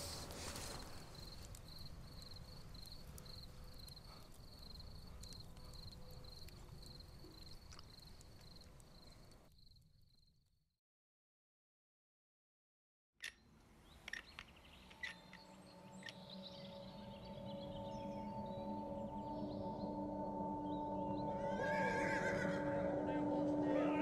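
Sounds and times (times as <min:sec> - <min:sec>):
crickets chirping: 0:00.0 - 0:10.4, 0:14.1 - 0:23.3.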